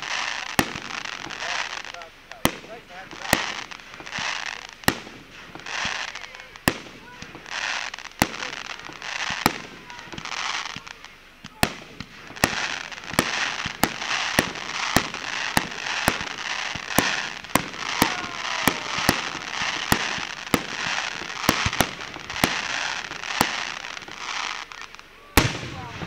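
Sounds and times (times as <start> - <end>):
fireworks bangs: 0.0 - 26.0
steady noisy hiss: 0.0 - 26.0.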